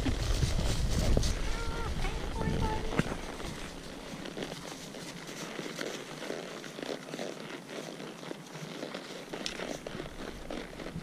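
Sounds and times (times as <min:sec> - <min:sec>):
hoof steps on gravel: 0:00.0 - 0:11.0.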